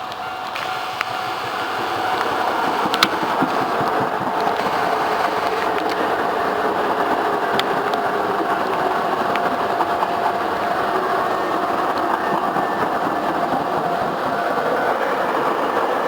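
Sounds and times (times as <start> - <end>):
sharp clicks: 0.0 - 14.1
electric train running past: 0.0 - 16.0.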